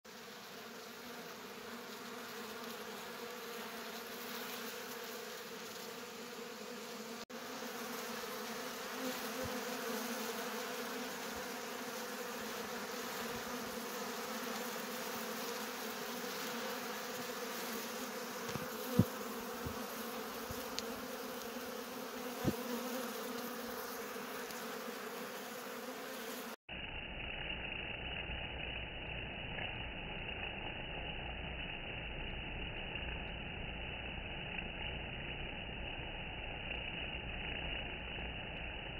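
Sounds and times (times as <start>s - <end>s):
bees buzzing: 0.1s - 38.9s.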